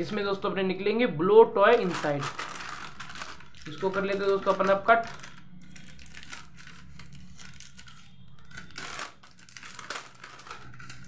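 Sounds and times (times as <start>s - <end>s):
foil packet crinkling: 1.7s - 11.0s.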